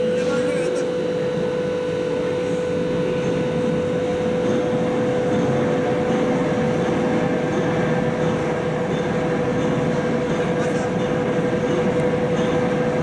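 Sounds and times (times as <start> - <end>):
constant hum: 0.0 - 13.0
train running: 0.0 - 13.0.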